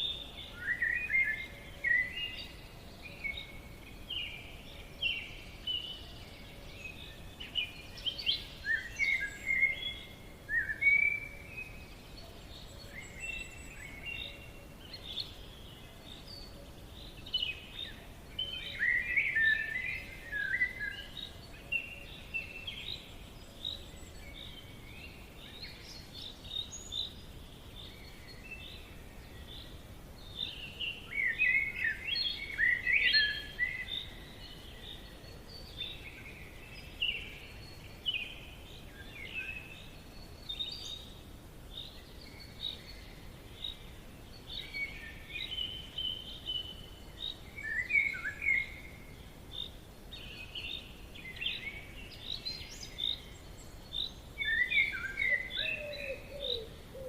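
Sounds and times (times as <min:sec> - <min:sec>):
birds chirping and trilling: 0:00.0 - 0:57.0
faint steady background hiss: 0:00.0 - 0:57.0.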